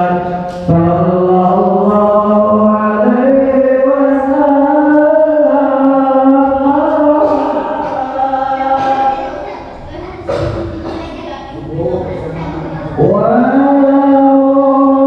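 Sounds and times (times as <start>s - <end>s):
man chanting devotional verses: 0.0s - 9.6s, 11.6s - 15.0s.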